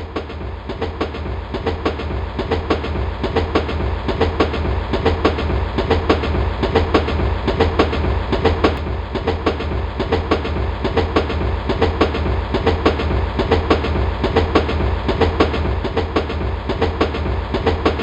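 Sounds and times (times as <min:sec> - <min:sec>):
train low rumble: 0:00.0 - 0:18.0
train wheels clattering on rails: 0:00.0 - 0:18.0.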